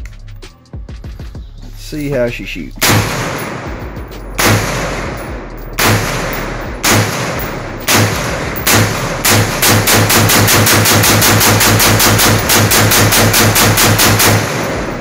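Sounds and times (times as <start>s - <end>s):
rifle shots: 2.8s - 15.0s.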